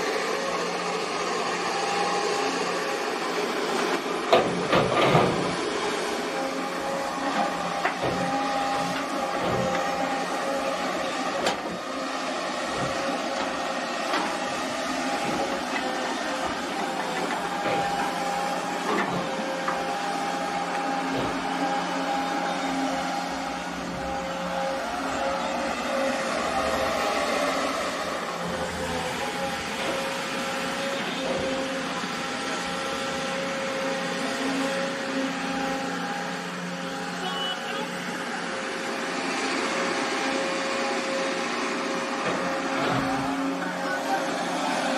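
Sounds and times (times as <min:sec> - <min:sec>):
excavator engine and hydraulics whining: 0:00.0 - 0:44.9.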